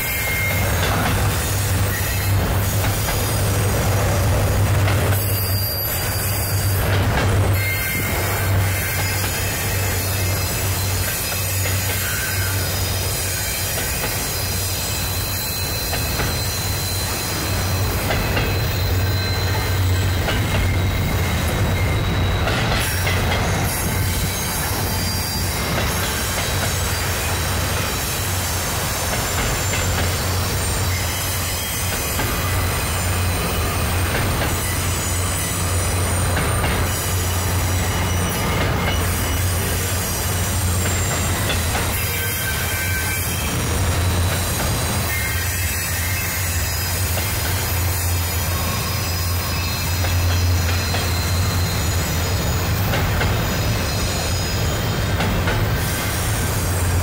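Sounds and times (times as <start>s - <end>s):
freight train rumbling over bridge: 0.0s - 57.0s
wheels squealing on rails: 0.0s - 57.0s.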